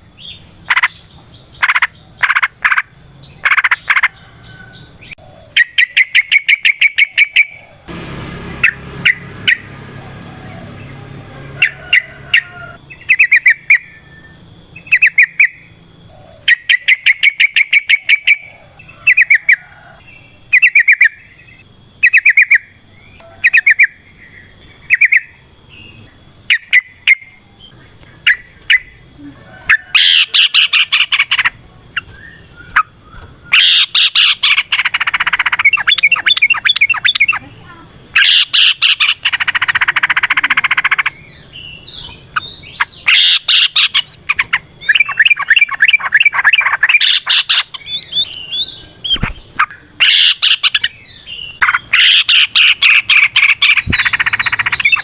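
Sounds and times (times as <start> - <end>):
birds chattering: 0.0 - 55.0
harsh bird calls: 0.0 - 55.0.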